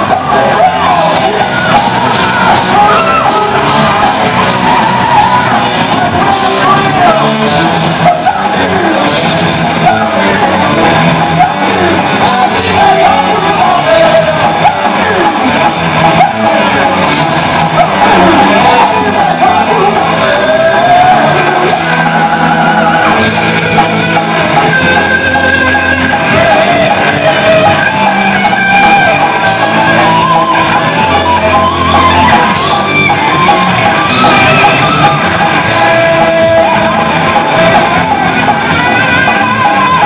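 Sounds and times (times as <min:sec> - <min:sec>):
heavy metal band playing: 0:00.0 - 0:40.0
high shouted vocals: 0:00.0 - 0:40.0.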